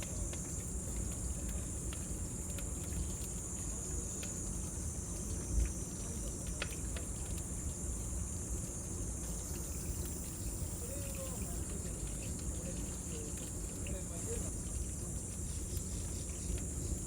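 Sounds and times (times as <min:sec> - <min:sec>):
bonfire crackling: 0:00.0 - 0:17.0
cicadas droning: 0:00.0 - 0:17.0.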